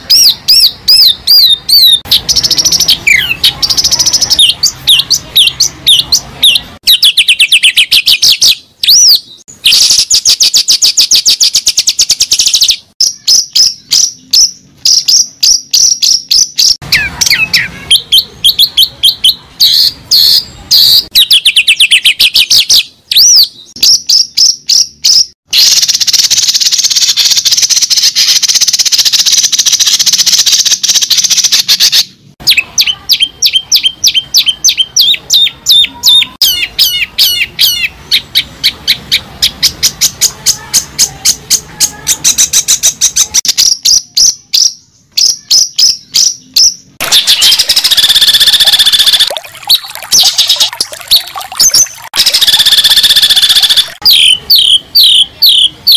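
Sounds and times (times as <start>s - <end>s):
bird singing: 0.0s - 55.9s.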